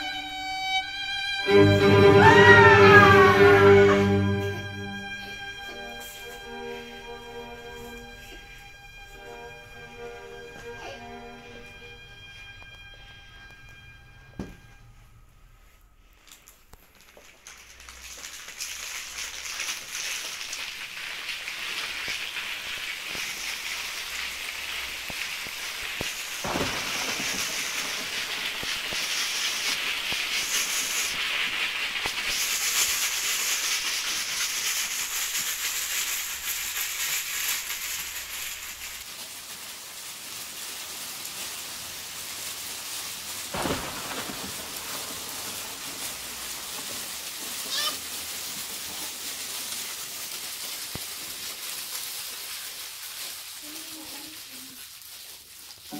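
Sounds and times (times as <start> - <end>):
rain-like hiss: 0.0 - 55.9.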